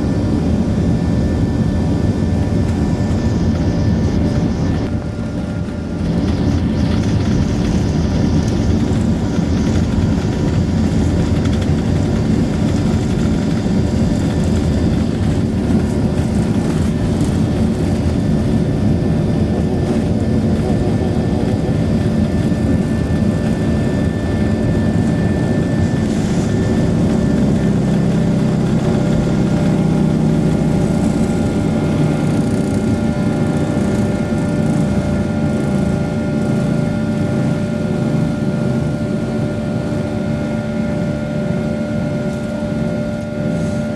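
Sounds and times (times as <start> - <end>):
engine whining tones: 0.0 - 43.9
jet engine low rumble: 0.0 - 43.9.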